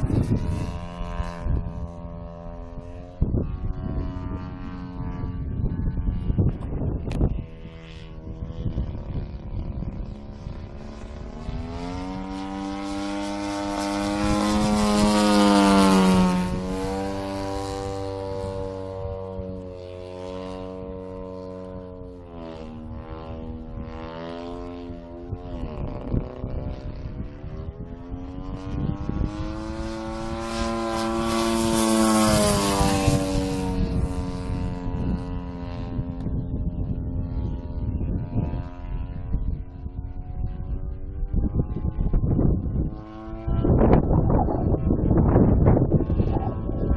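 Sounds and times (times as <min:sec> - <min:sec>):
model plane engine and propeller: 0:00.0 - 0:46.9
wind buffeting microphone: 0:00.0 - 0:46.9.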